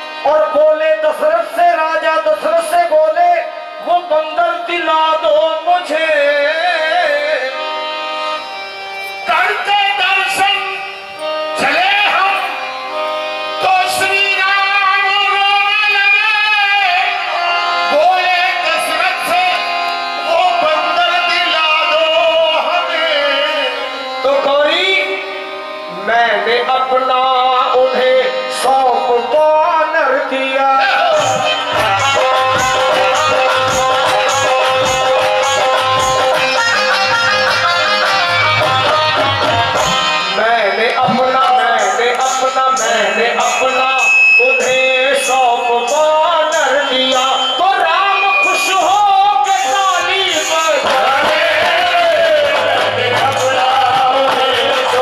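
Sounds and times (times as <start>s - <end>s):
live instrumental accompaniment: 0.0s - 55.0s
man singing into a microphone: 0.0s - 55.0s.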